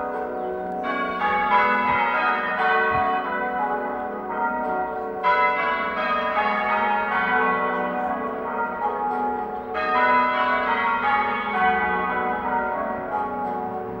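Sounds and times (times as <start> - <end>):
half-muffled church bells ringing: 0.0 - 14.0.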